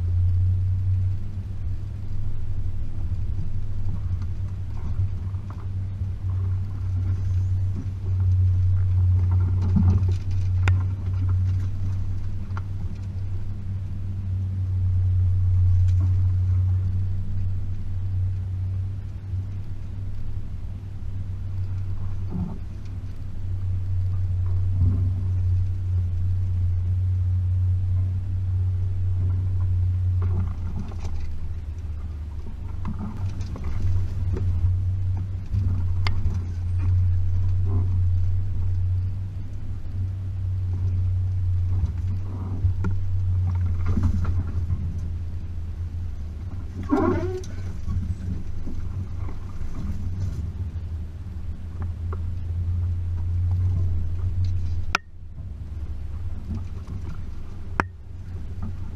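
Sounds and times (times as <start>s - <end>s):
car engine droning: 0.0s - 58.9s.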